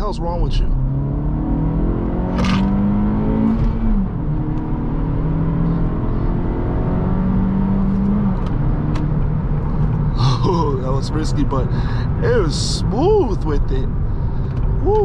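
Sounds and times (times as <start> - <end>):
car engine accelerating: 0.5 - 15.0.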